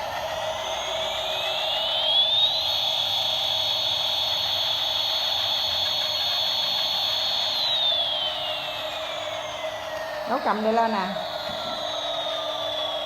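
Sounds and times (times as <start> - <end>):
toy airplane whine: 0.0 - 13.0.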